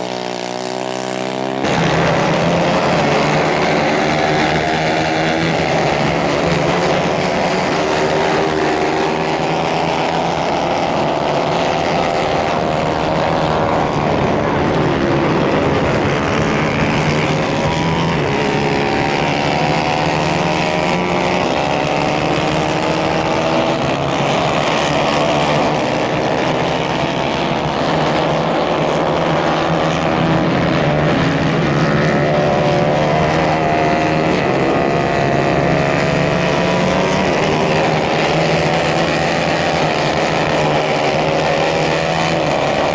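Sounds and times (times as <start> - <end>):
racing kart engines: 0.0 - 42.9.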